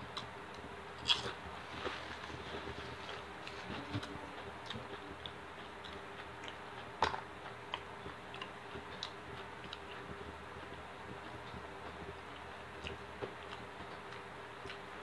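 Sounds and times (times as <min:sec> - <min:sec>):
faint steady hum: 0:00.0 - 0:15.0
chewing and mouth clicks: 0:00.1 - 0:02.0, 0:02.9 - 0:14.9.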